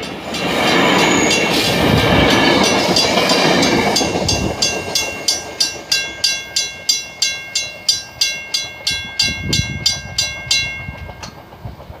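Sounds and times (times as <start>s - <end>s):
railroad crossing bell ringing: 0.0s - 11.6s.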